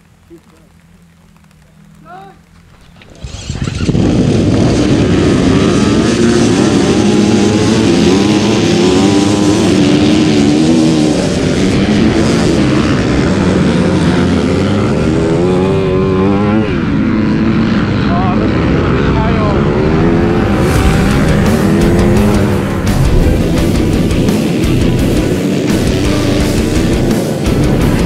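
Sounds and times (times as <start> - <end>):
dirt bike engine rising and falling: 0.0 - 18.0, 18.6 - 28.0
dirt bike engines at full throttle: 0.0 - 28.0.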